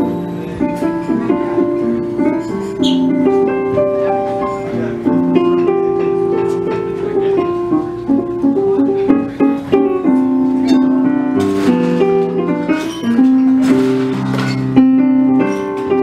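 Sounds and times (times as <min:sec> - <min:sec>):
piano playing jazz: 0:00.0 - 0:16.0.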